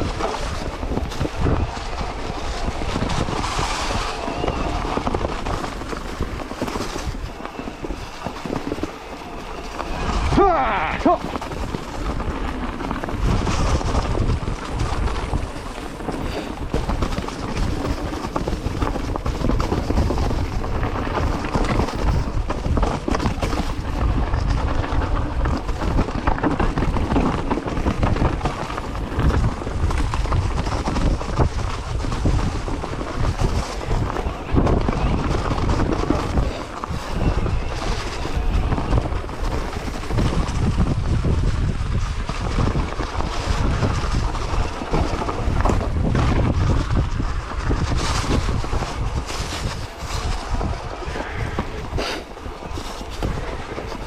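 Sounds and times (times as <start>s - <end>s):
mountain bike rattling on trail: 0.0s - 54.0s
wind buffeting microphone: 0.0s - 54.0s.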